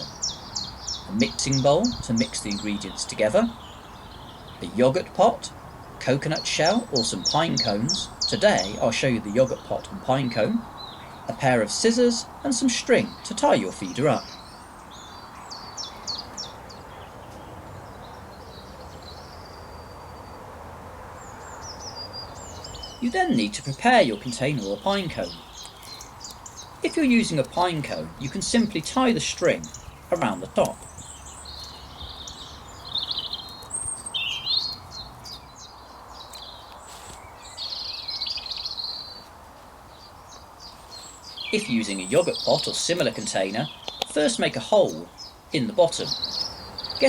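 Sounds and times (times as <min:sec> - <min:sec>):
background hiss: 0:00.0 - 0:47.0
songbirds chirping: 0:00.0 - 0:47.0.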